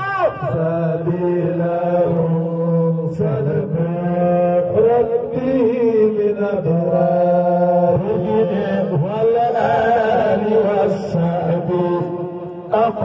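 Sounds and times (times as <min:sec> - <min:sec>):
man chanting a devotional song: 0:00.0 - 0:13.0.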